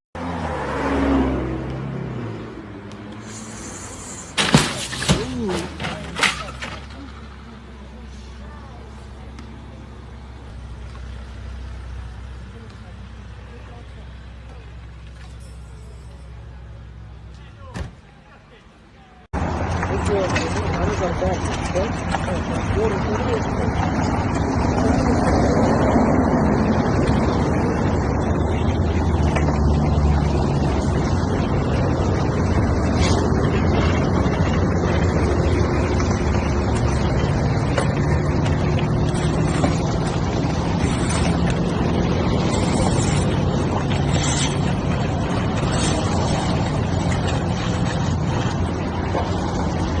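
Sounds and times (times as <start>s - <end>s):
vehicle engine and road noise: 0.2s - 50.0s.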